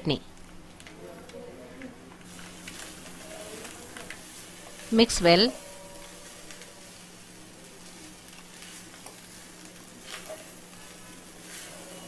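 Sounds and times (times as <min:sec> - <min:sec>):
fried rice sizzling in a pan: 0:01.9 - 0:12.0.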